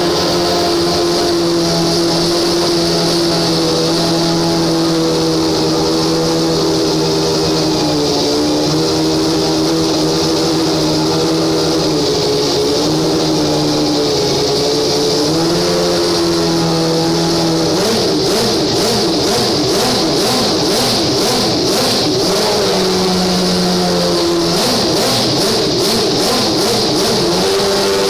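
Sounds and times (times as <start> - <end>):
racing car engine running: 0.0 - 28.0.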